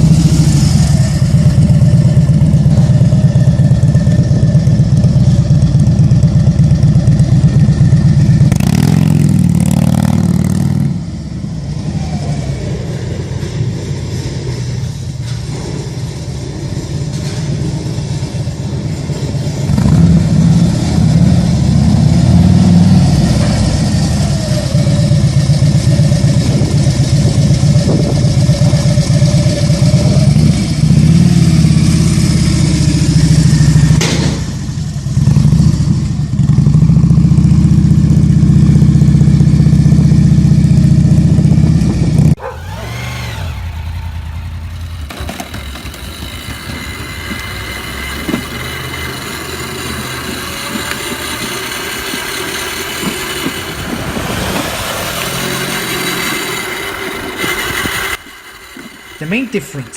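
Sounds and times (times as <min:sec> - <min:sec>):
quieter engine revving: 0:00.0 - 0:59.9
trike engines revving: 0:00.0 - 0:59.9.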